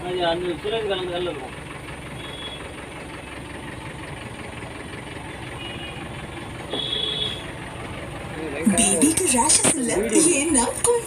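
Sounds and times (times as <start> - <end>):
van engine rumble and hiss: 0.0 - 11.0.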